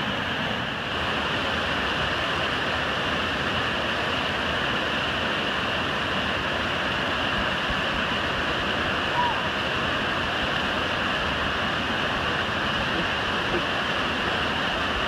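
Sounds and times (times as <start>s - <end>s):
creek pouring over small waterfalls: 0.0s - 15.0s.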